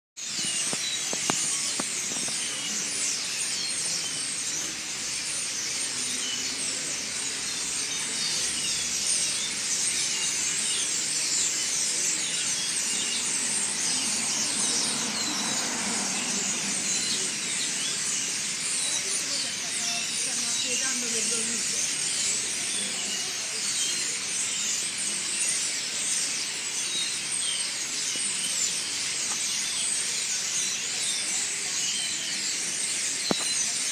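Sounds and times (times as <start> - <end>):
chorus of small birds chirping: 0.2 - 33.9.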